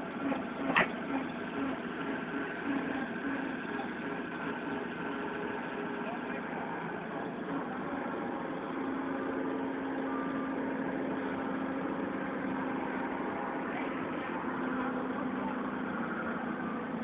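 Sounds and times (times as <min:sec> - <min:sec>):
forklift diesel engines humming: 0:00.0 - 0:17.0.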